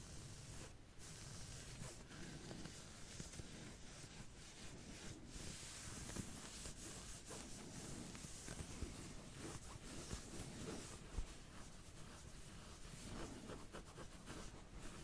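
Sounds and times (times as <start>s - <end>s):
scratching and rubbing strokes: 0.0s - 15.0s.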